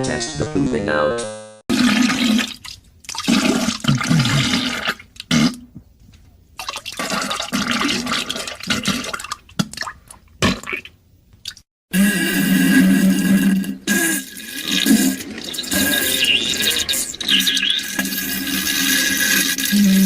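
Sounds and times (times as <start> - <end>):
wet fart-like spurts: 1.7 - 5.8, 6.6 - 10.9, 11.9 - 20.0.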